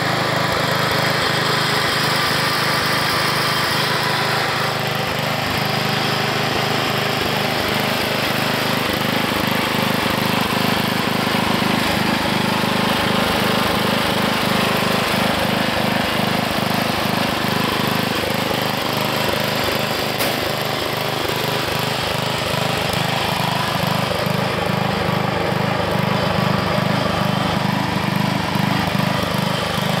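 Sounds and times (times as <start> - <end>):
lawn tractor engine running: 0.0 - 30.0.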